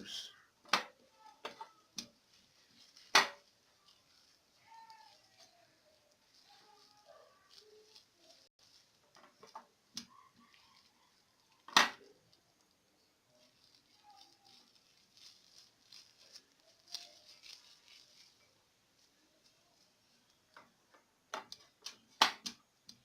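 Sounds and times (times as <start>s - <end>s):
hands crushing leaves: 0.7s - 12.8s, 13.4s - 23.0s.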